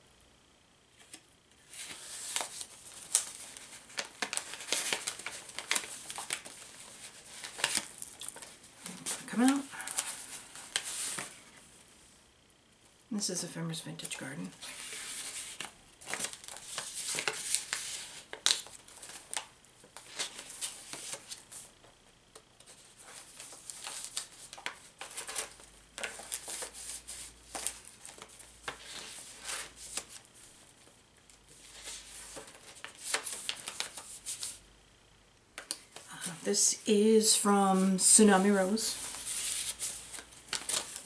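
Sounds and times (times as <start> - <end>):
paper rustling and crinkling: 1.0 - 11.6, 14.6 - 21.7, 22.4 - 30.9, 31.5 - 34.6, 37.3 - 41.0.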